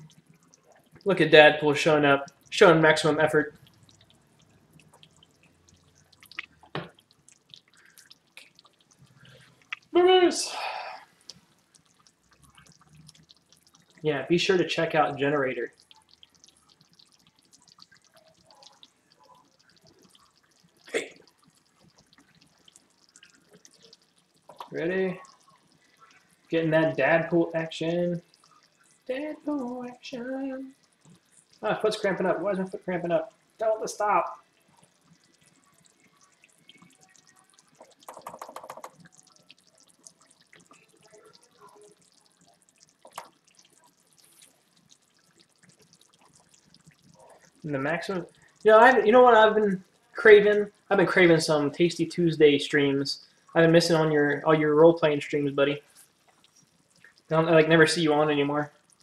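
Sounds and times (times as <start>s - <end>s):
meat sauce simmering with pops: 0.0s - 59.0s.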